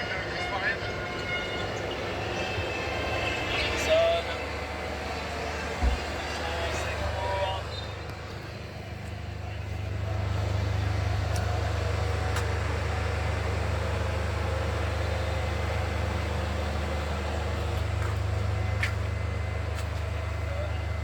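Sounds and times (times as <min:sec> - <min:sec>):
low mechanical hum: 0:01.1 - 0:21.0.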